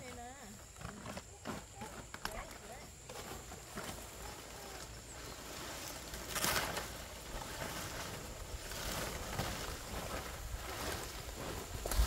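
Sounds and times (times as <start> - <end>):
palm leaves rustling: 0.0 - 12.0.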